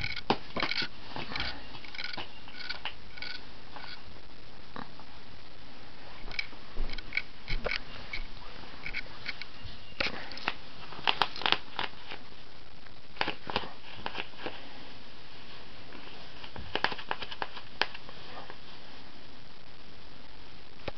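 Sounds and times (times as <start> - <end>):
steady hiss: 0.0 - 20.9.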